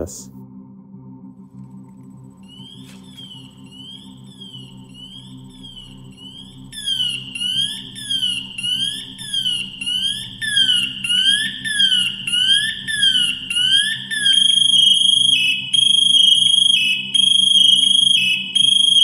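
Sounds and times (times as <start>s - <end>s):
electronic warbling alarm: 2.5s - 19.0s.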